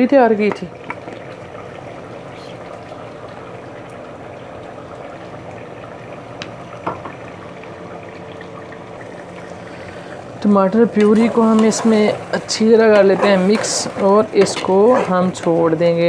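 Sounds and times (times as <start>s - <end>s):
curry bubbling in a pot: 0.0s - 16.0s.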